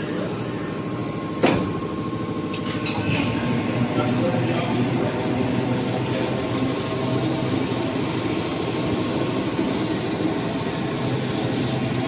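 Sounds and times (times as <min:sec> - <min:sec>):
steam engine running: 0:00.0 - 0:12.0.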